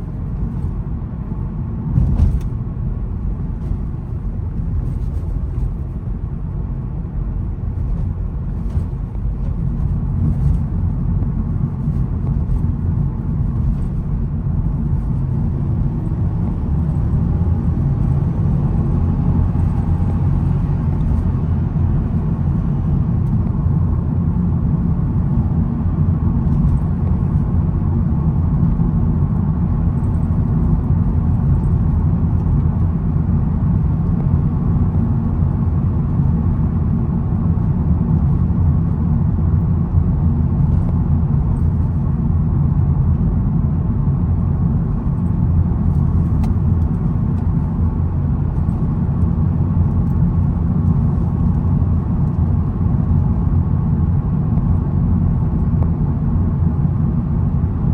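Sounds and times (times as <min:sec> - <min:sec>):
car engine and road rumble: 0:00.0 - 0:57.9.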